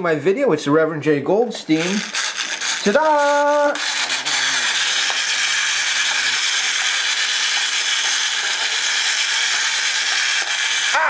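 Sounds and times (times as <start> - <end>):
clockwork toy motor buzzing: 1.6 - 11.0.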